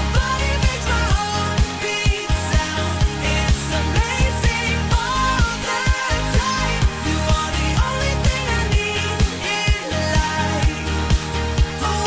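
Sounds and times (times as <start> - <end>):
pop music with drum beat: 0.0 - 12.0.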